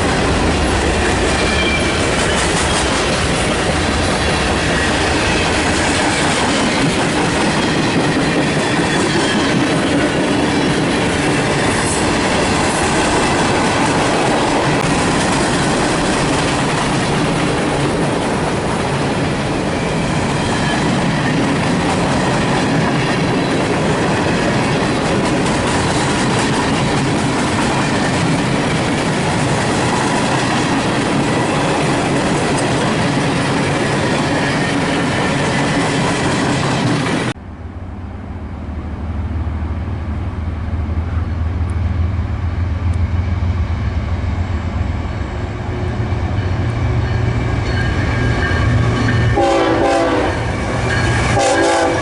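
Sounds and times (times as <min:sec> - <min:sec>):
diesel locomotive engine rumble: 0:00.0 - 0:52.0
train wheels rushing on rails: 0:00.0 - 0:52.0.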